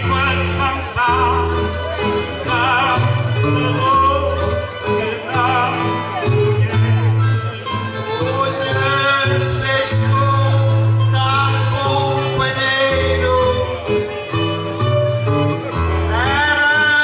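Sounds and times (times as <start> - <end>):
man singing with vibrato: 0.0 - 17.0
plucked bass line: 0.0 - 17.0
strummed string instruments: 0.0 - 17.0.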